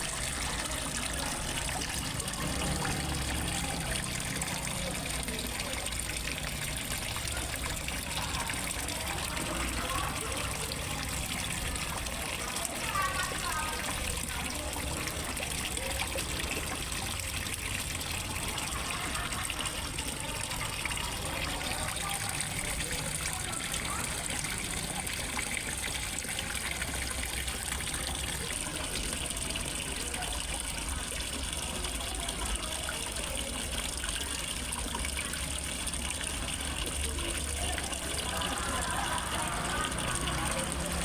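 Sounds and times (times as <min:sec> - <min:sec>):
small waterfall splashing into pond: 0:00.0 - 0:41.0.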